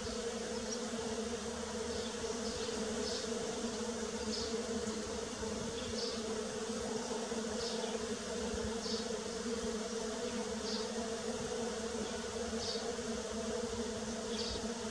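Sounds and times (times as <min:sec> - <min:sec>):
bees buzzing: 0:00.0 - 0:14.9.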